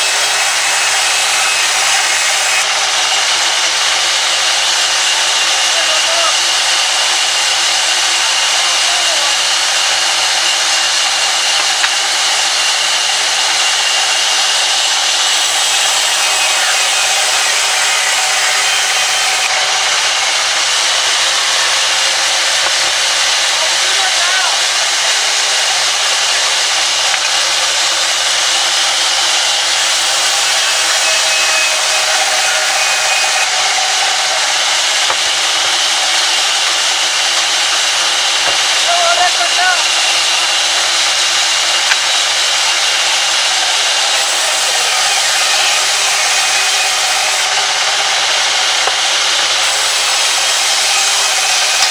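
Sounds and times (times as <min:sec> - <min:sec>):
band saw cutting through log: 0:00.0 - 0:51.9.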